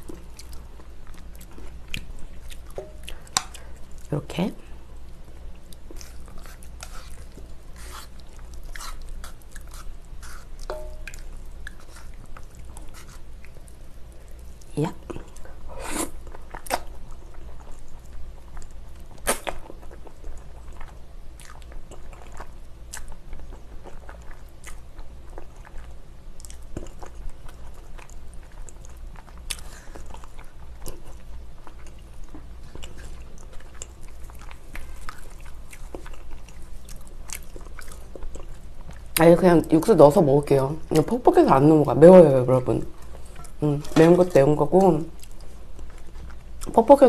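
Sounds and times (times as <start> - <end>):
person chewing noodles: 0.0 - 39.2.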